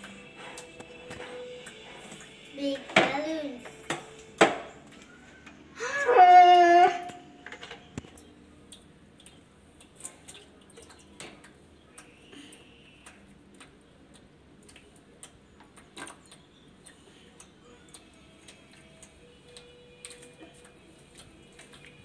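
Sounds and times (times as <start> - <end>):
water dripping and splashing: 0.0 - 5.1, 8.0 - 22.0.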